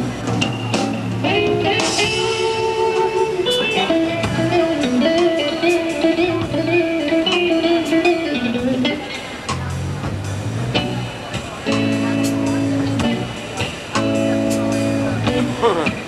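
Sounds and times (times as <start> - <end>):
electric guitar held notes: 0.0 - 10.1, 10.7 - 16.0
plucked notes: 0.0 - 16.0.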